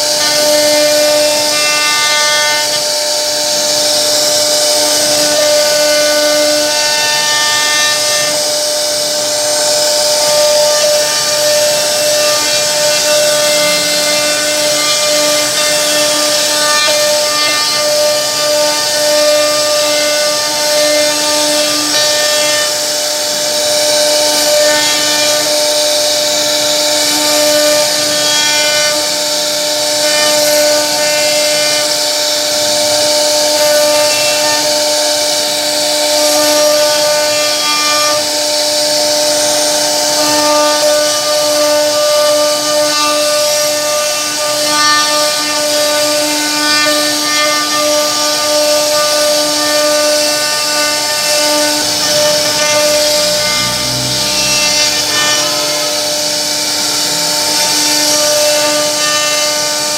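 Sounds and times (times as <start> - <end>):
router spindle whine: 0.0 - 59.9.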